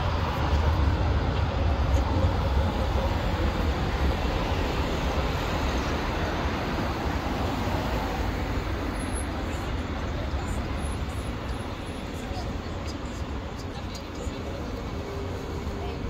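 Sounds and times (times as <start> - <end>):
low rumble of passing vehicles: 0.0 - 16.0.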